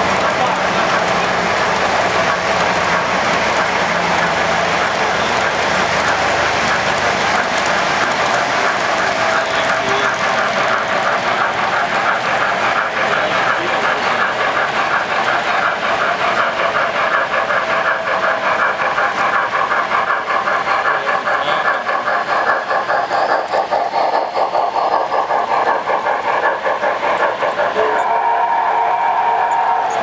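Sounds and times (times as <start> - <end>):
model train wheels clattering on track: 0.0 - 30.0.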